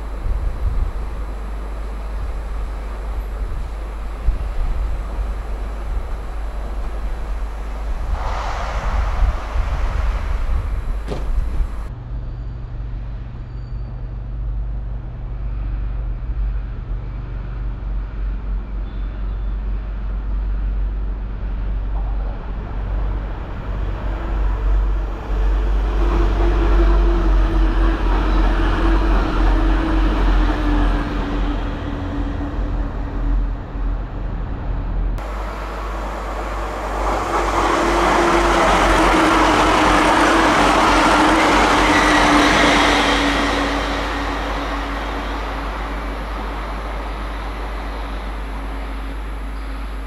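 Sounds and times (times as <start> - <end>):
train rumble and rail noise: 0.0 - 50.0.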